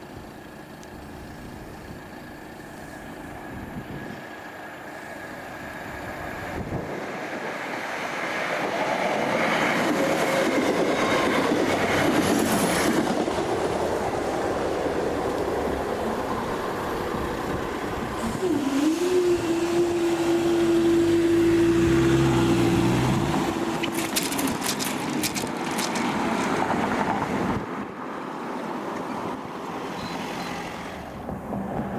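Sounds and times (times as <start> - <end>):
passenger train passing: 0.0 - 31.9.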